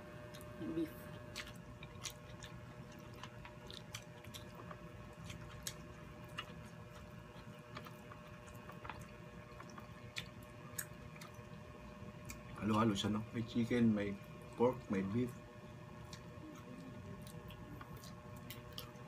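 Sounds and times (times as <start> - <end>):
faint steady hum: 0.0 - 19.0
quiet chewing: 0.2 - 13.1, 14.2 - 19.0.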